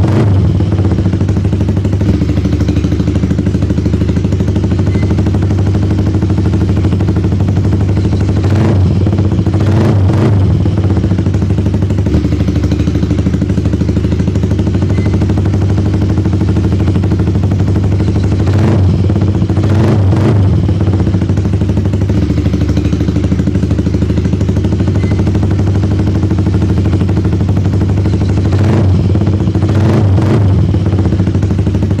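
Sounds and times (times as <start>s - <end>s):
engine blips: 0.0s - 32.0s
motorcycle engine idling: 0.0s - 32.0s.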